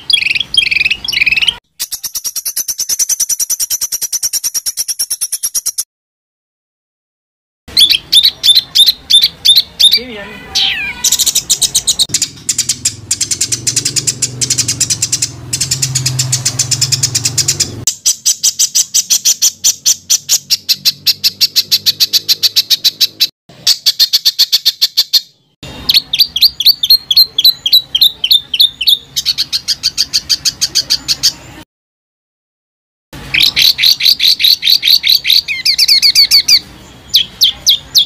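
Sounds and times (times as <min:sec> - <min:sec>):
songbird rapid-fire song: 0:00.0 - 0:05.8, 0:07.7 - 0:31.6, 0:33.2 - 0:38.0.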